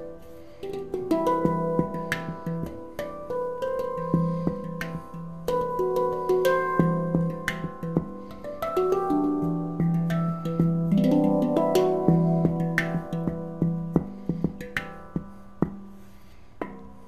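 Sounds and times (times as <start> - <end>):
handpan notes ringing: 0.0 - 17.0.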